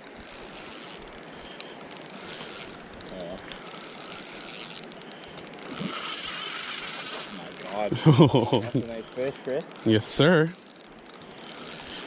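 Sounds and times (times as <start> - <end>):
fishing reel being cranked: 0.0 - 12.0.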